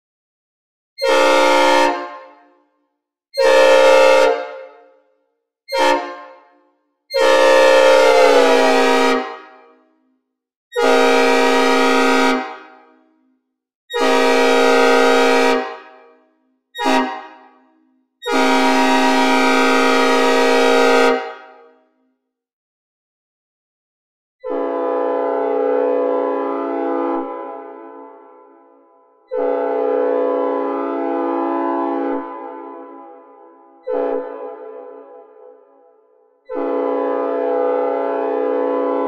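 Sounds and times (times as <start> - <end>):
synthesized locomotive air horn blasts: 1.0 - 2.7, 3.4 - 4.9, 5.7 - 9.8, 10.7 - 13.1, 13.9 - 16.1, 16.8 - 21.8, 24.4 - 39.0.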